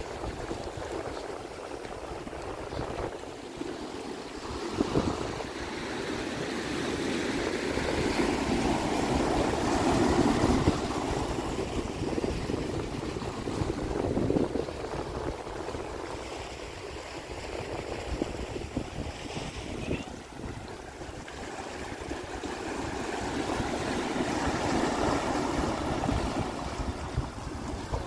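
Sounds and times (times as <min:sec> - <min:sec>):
ocean surf washing over rocks: 0:00.0 - 0:28.0.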